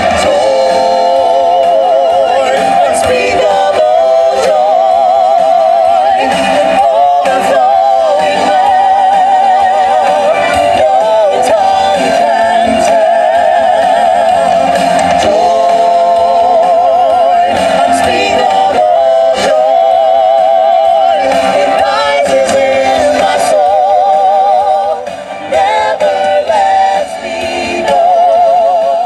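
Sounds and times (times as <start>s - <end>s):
musical accompaniment: 0.0s - 29.0s
people singing with vibrato: 0.0s - 29.0s.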